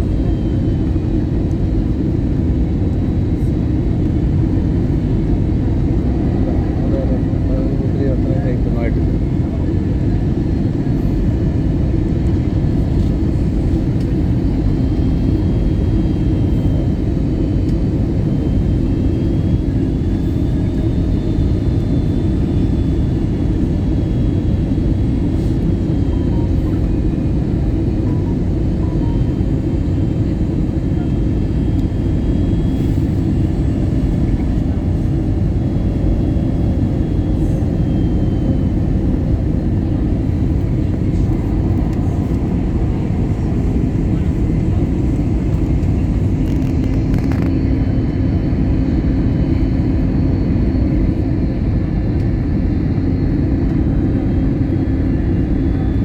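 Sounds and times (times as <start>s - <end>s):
engine and airflow rumble: 0.0s - 56.0s.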